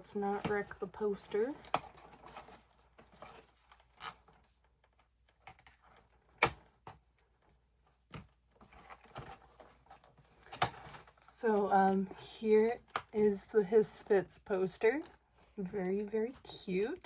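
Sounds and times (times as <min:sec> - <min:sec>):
cardboard and paper crinkling: 0:00.1 - 0:14.1.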